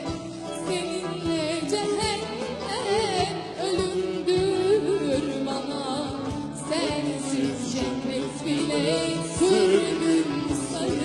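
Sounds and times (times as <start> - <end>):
live band accompaniment: 0.0 - 11.0
woman singing: 0.0 - 11.0.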